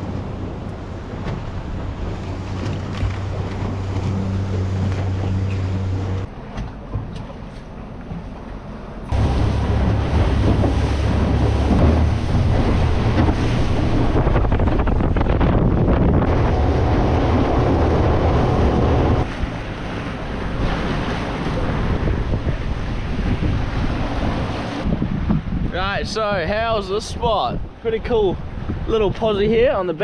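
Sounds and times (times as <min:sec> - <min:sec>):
wind buffeting microphone: 0:00.0 - 0:06.3, 0:09.1 - 0:29.8
outboard motor running: 0:00.0 - 0:24.9.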